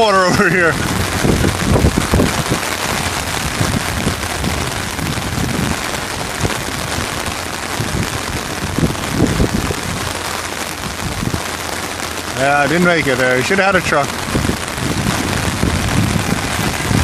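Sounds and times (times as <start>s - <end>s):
low irregular rumbles: 0.0s - 17.0s
steady rain pouring: 0.0s - 17.0s.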